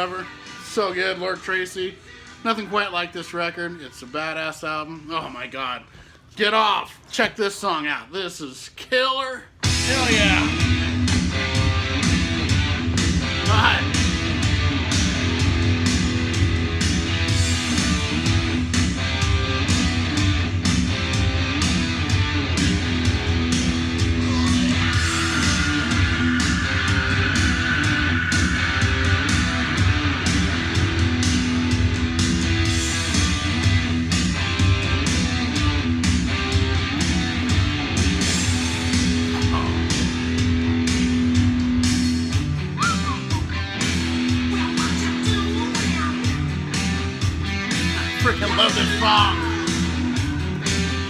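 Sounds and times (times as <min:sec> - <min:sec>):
rock music from a vinyl record: 0:00.0 - 0:05.3, 0:09.6 - 0:51.0.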